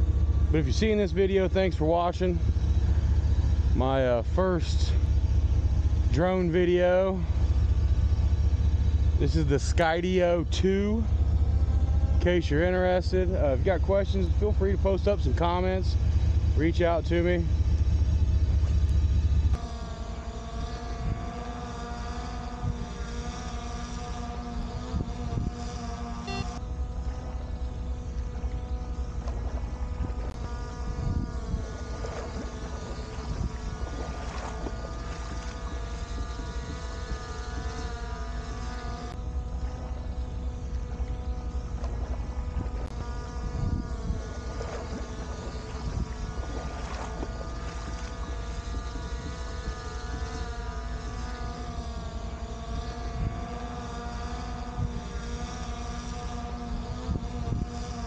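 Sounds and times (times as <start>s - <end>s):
drone propellers whining: 0.0s - 58.0s
wind rumbling on microphone: 0.0s - 58.0s.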